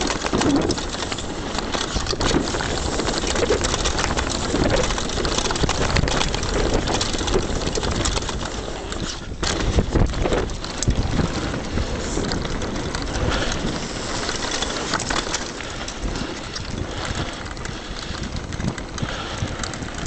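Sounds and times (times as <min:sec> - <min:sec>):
bike knocking over bumps: 0:00.0 - 0:20.0
bike tyres crunching on gravel: 0:00.0 - 0:20.0
wind buffeting microphone: 0:00.0 - 0:20.0.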